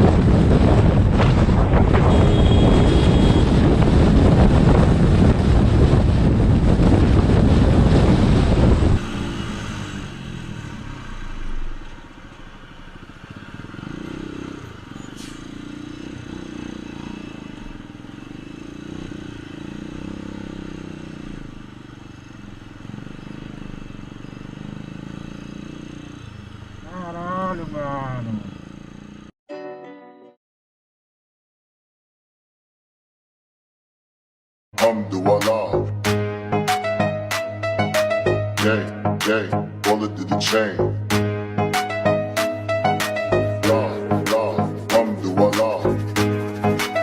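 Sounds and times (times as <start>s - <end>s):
engine hum: 0.0s - 29.3s, 34.8s - 47.0s
wind and road noise: 0.0s - 29.3s, 35.6s - 47.0s.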